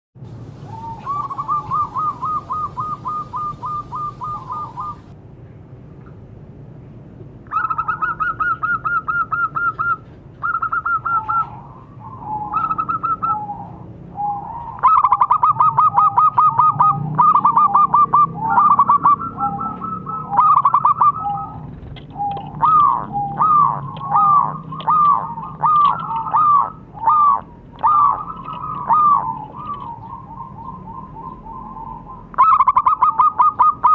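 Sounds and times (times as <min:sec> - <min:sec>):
dove cooing: 0:00.5 - 0:05.1, 0:07.5 - 0:33.9.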